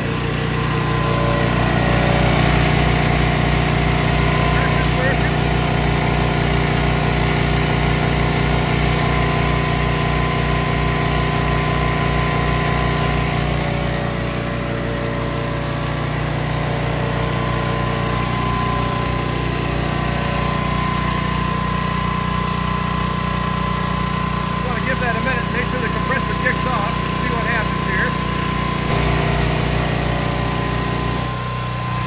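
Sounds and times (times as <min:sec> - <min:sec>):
generator engine running: 0:00.0 - 0:32.0.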